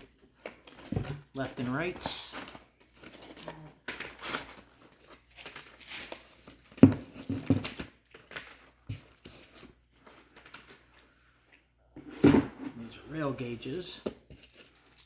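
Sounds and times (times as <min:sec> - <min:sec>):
packaging crinkling and rustling: 0:00.0 - 0:11.6, 0:13.2 - 0:15.0.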